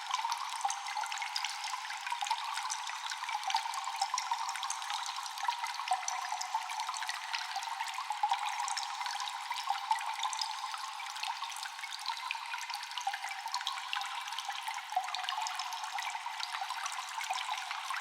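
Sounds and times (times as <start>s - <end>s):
water drops echoing in a cave: 0.0s - 18.0s.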